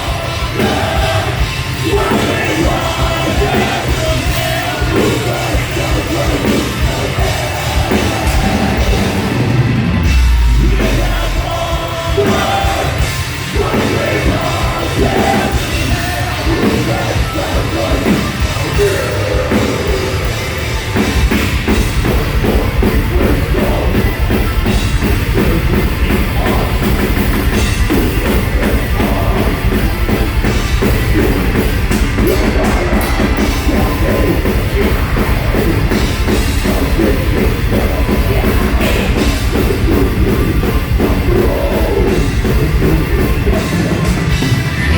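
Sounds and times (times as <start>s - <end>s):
fast dense drum beat: 0.0s - 44.9s
metal band playing live: 0.0s - 44.9s.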